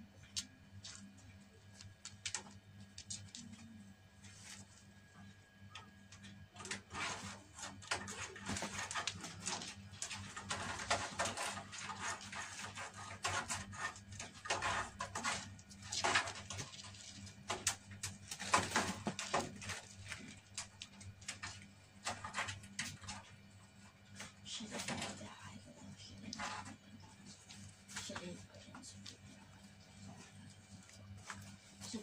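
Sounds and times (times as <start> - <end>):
low steady hum: 0.0 - 32.0
kittens' claws scratching: 0.2 - 32.0.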